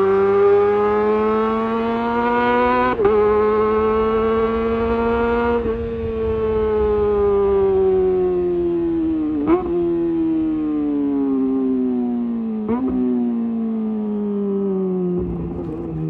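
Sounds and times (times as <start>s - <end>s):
motorcycle engine high-pitched howl: 0.0s - 16.0s.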